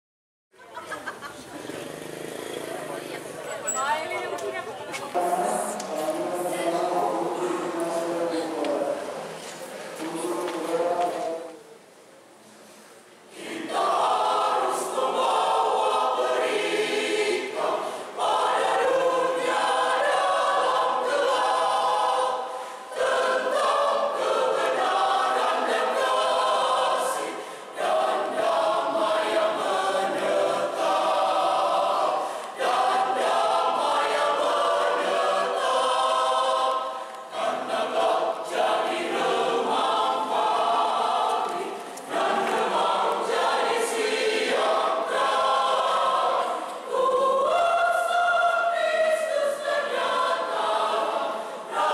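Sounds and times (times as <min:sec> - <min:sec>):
mixed choir singing: 0:05.1 - 0:11.7, 0:13.2 - 0:51.9.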